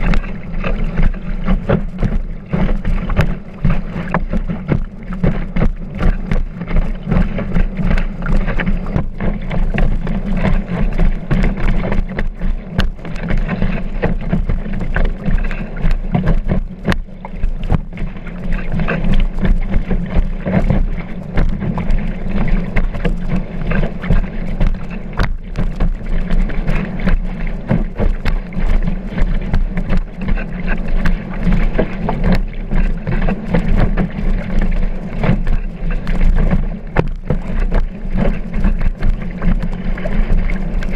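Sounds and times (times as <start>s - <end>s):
board slapping on water: 0.0s - 40.9s
heavy low rumble: 0.0s - 40.9s
water rushing: 0.0s - 40.9s.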